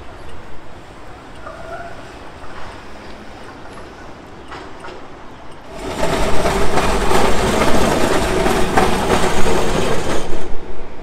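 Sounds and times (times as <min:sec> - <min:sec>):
tram wheels rumbling on rails: 0:00.0 - 0:11.0
clacks over the track: 0:01.2 - 0:11.0.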